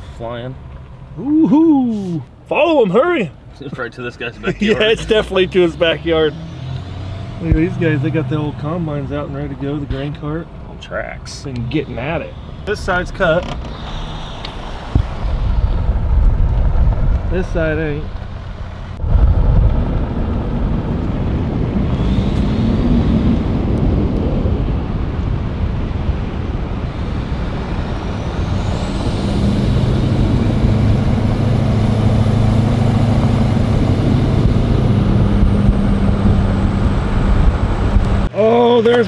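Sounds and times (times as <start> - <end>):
road and wind noise: 0.0 - 39.0
high whine: 1.1 - 38.6
low engine drone: 4.3 - 38.3.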